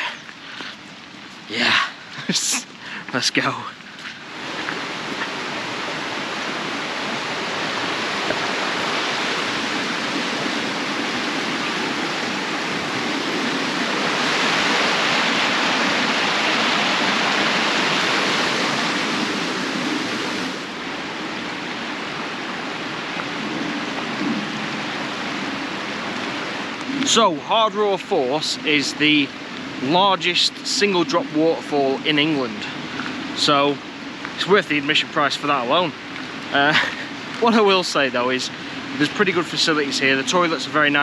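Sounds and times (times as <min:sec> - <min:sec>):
rushing stream water: 0:00.0 - 0:41.0.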